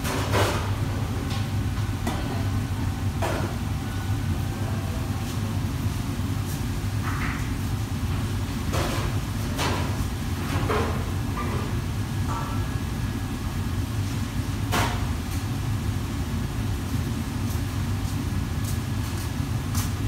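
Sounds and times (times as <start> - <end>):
gas burner roar: 0.0 - 20.0.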